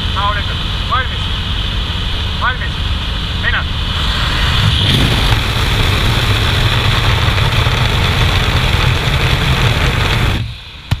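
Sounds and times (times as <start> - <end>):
light aircraft engine drone: 0.0 - 11.0
heavy wind rush: 0.5 - 11.0.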